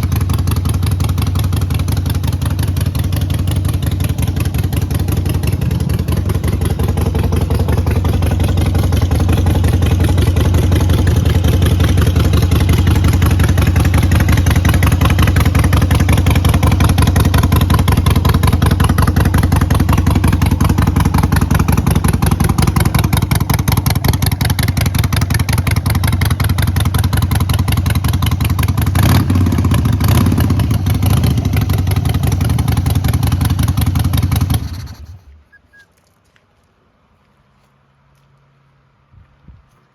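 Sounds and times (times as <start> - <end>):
motorcycle engine idling: 0.0 - 35.6.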